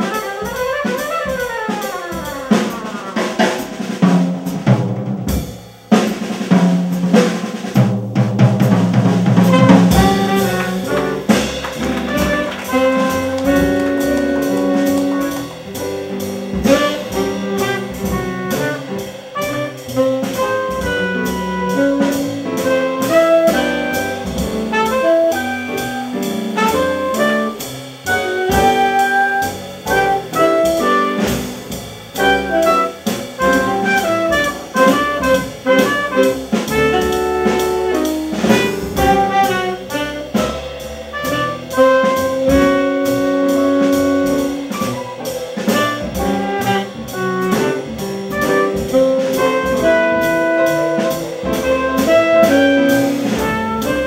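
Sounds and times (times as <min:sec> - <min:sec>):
saxophone: 0:00.0 - 0:03.6, 0:09.5 - 0:31.5, 0:32.2 - 0:54.0
trumpet: 0:00.0 - 0:04.0, 0:09.2 - 0:54.0
drum kit playing: 0:00.0 - 0:54.0
upright bass: 0:02.2 - 0:54.0.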